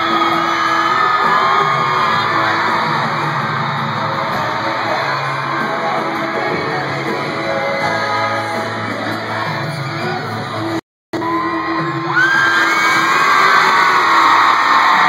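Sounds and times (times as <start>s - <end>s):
amplified backing music: 0.0s - 15.0s
audience yelling and screaming: 0.0s - 15.0s
vocal group singing pop: 0.0s - 15.0s.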